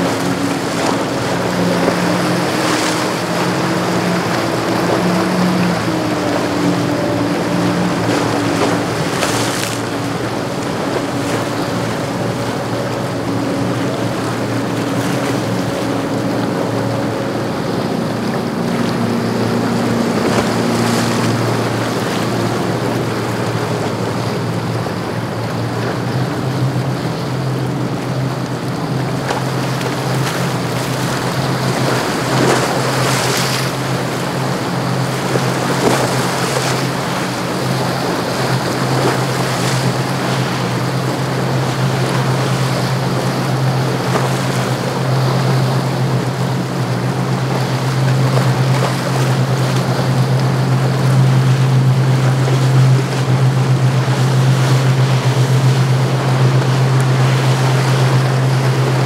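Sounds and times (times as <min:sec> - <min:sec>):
motorboat engines running: 0:00.0 - 0:59.0
wake and choppy water: 0:00.0 - 0:59.0.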